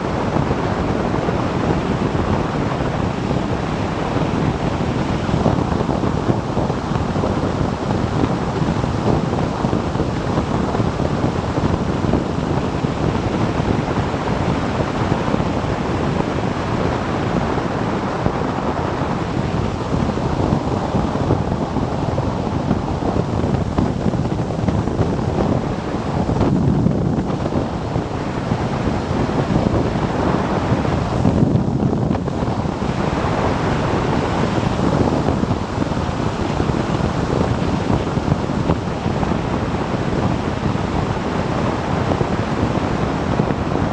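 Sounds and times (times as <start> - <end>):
wind rush on microphone: 0.0 - 43.9.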